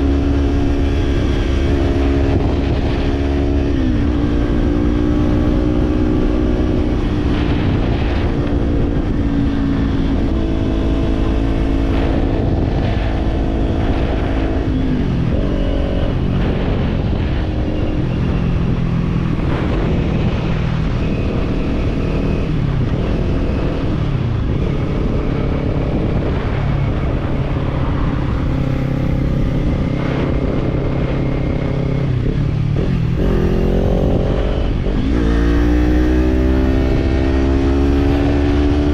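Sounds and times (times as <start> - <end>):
motorcycle engine riding: 0.0 - 38.9
wind rushing past a moving motorcycle: 0.0 - 38.9.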